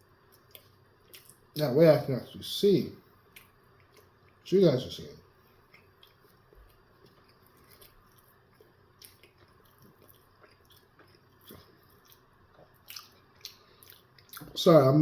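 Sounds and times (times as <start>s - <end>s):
faint chewing with mouth clicks: 0.1s - 1.6s, 3.1s - 4.5s, 5.2s - 14.7s.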